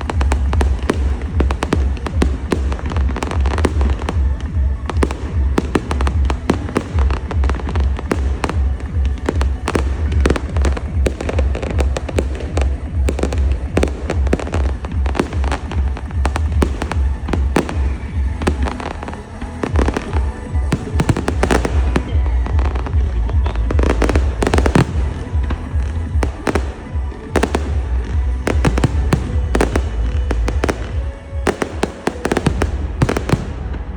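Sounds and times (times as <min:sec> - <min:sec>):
deep fireworks rumble: 0:00.0 - 0:33.9
fireworks bangs and crackles: 0:00.0 - 0:33.9.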